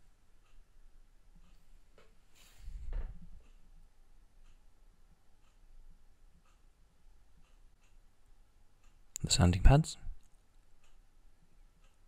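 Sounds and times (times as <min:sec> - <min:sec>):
faint ticking: 0:00.0 - 0:02.2, 0:03.3 - 0:12.0.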